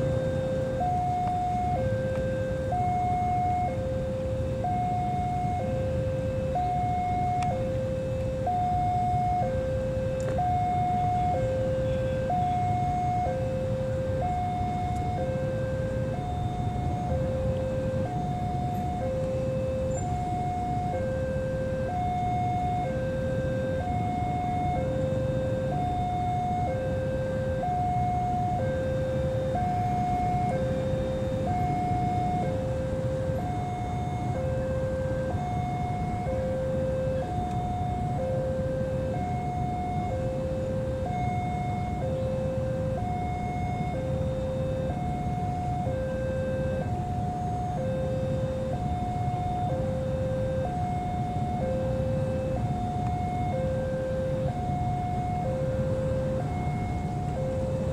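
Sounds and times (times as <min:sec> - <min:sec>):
level crossing two-tone alarm: 0:00.0 - 0:57.9.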